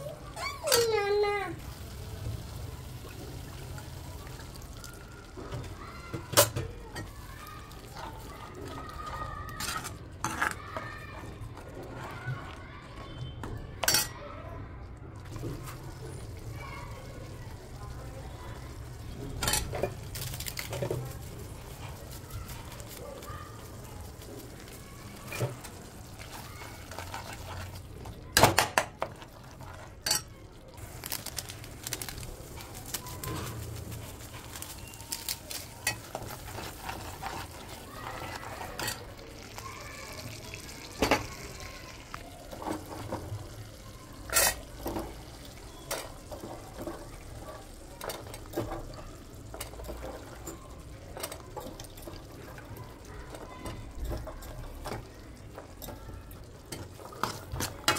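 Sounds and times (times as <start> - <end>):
thick gravy bubbling: 0.0 - 13.8, 14.6 - 57.9.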